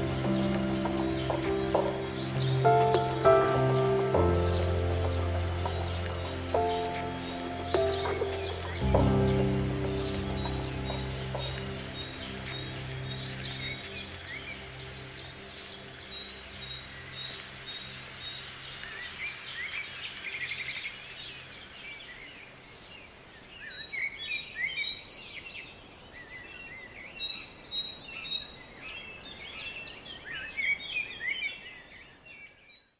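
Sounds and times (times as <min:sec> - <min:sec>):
songbirds singing and chirping: 0:00.0 - 0:32.9.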